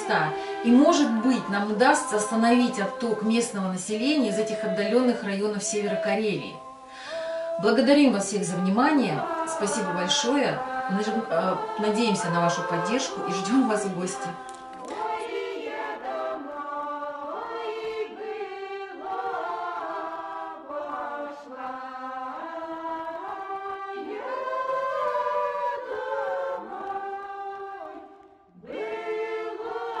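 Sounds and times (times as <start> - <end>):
choir singing held chords: 0.0 - 30.0.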